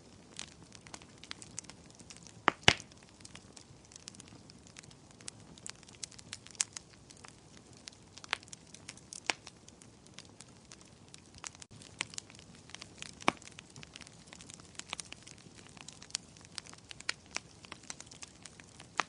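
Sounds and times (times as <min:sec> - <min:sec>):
wood fire crackling: 0:00.0 - 0:19.0
fire pops: 0:00.1 - 0:19.0.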